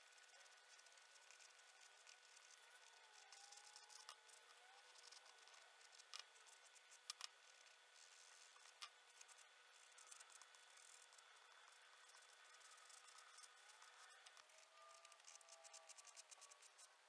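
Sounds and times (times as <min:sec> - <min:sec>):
pastel scratching on paper: 0:00.0 - 0:16.9.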